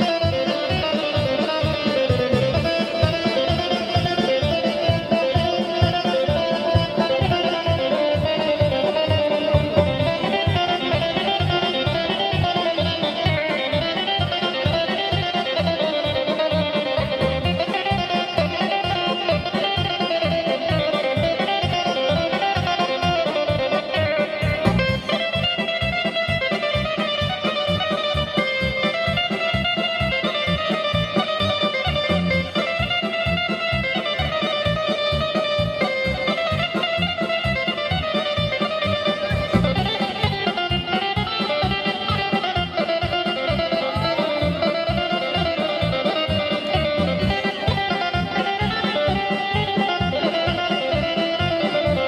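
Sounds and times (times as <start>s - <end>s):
fast folk dance music: 0.0s - 52.0s.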